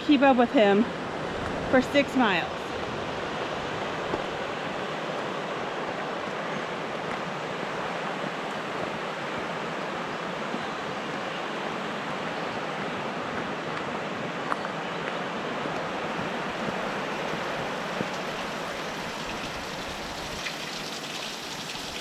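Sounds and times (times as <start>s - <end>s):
fast-flowing creek rushing: 0.6s - 22.0s.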